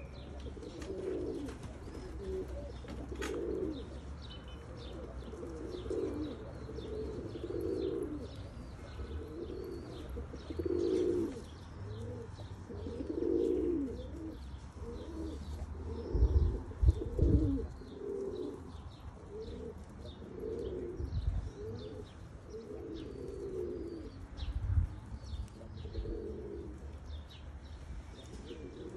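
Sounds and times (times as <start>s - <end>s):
pigeons cooing: 0.0s - 24.6s, 25.2s - 28.9s.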